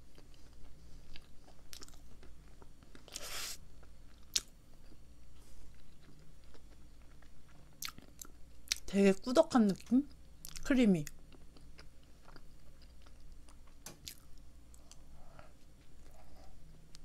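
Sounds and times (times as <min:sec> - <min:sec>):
person chewing: 0:00.1 - 0:08.9, 0:10.4 - 0:17.0.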